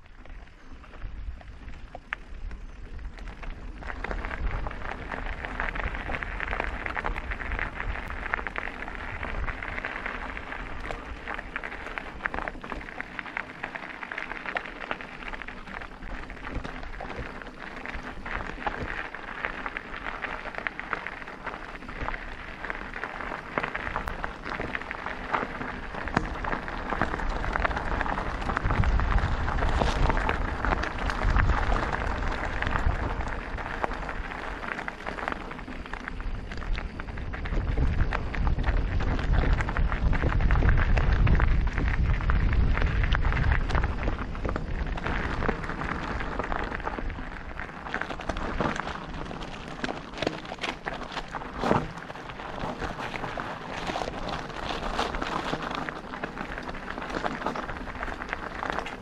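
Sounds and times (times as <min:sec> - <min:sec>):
bike tyres crunching on gravel: 0:00.0 - 0:59.0
wind rumble on microphone: 0:00.0 - 0:59.0.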